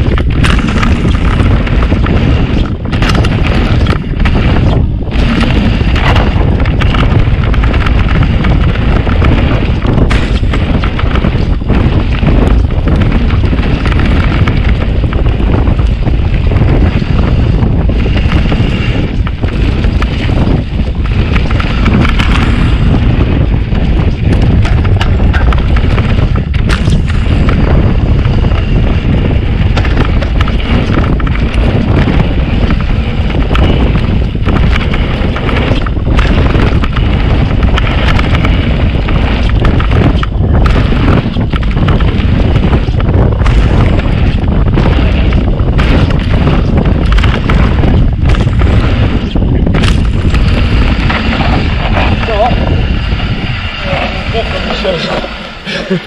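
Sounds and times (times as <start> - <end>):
bike rattling: 0.0 - 56.0
tyres rumbling on dirt: 0.0 - 56.0
wind buffeting microphone: 0.0 - 56.0.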